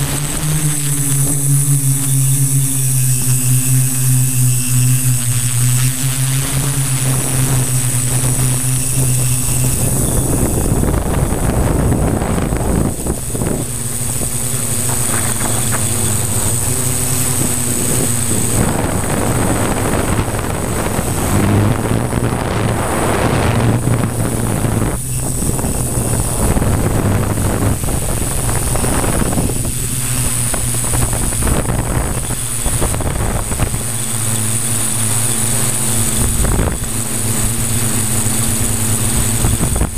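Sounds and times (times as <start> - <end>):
drone motors whirring: 0.0 - 39.9
gusty wind on microphone: 0.0 - 39.9.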